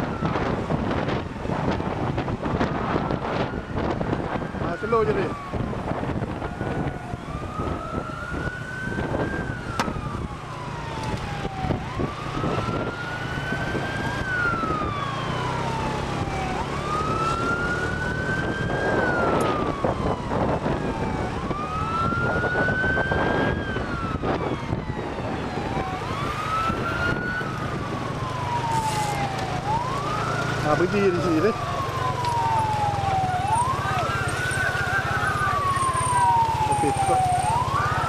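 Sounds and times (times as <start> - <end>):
siren wailing: 0.0 - 38.0
wind and road noise: 0.0 - 38.0.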